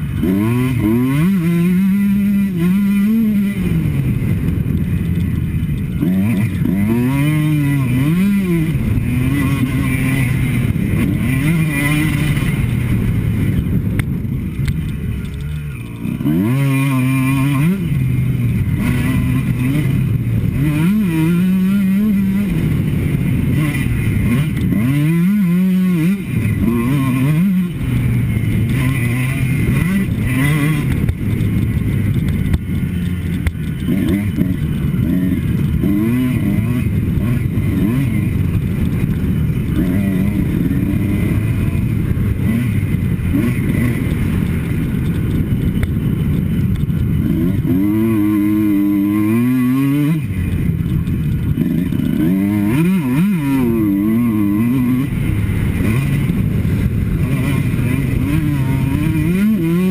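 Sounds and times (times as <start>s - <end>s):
motocross bike engine revving: 0.0s - 59.9s
wind noise on microphone: 0.0s - 59.9s.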